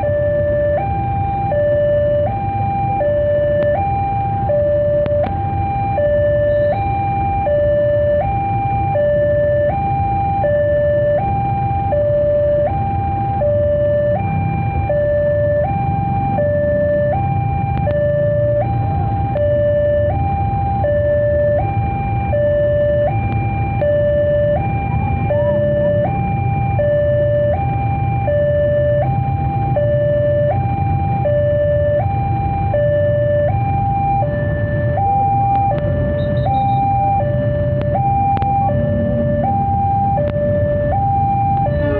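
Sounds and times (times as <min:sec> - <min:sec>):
two-tone crossing alarm: 0:00.0 - 0:41.9.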